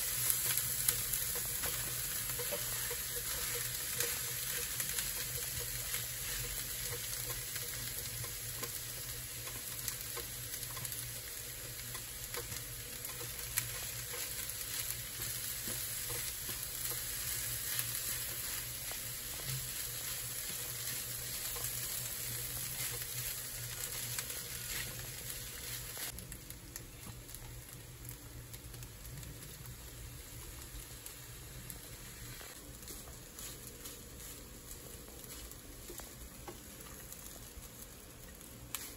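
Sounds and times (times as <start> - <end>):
rice sizzling in a frying pan: 0.0 - 38.9.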